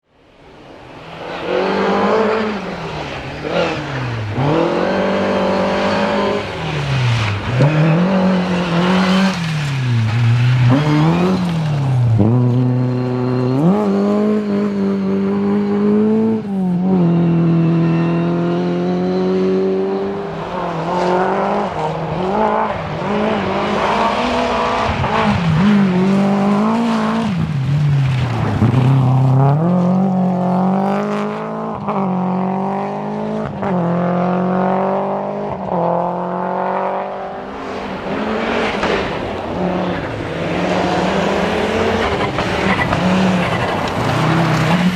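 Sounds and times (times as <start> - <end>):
rally car engine revving: 1.1 - 44.9.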